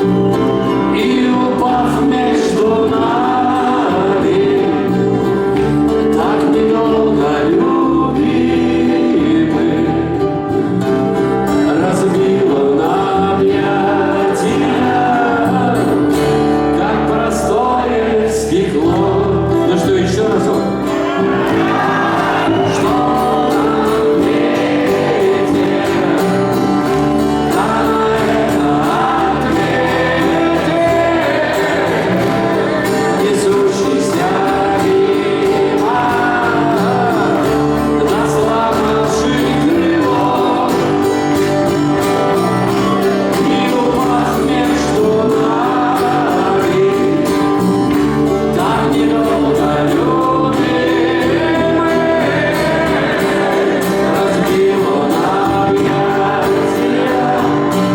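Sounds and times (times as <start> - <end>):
live rock band with singing: 0.0 - 57.9.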